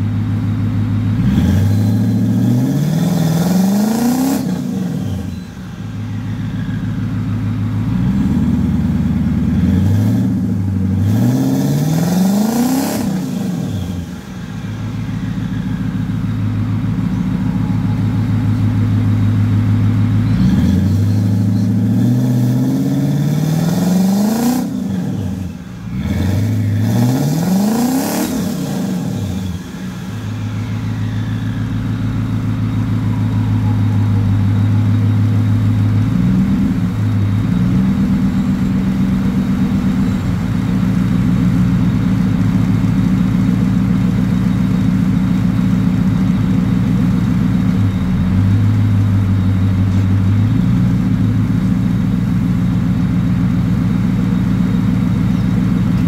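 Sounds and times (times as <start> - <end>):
turbocharged car engine revving: 0.8 - 56.0.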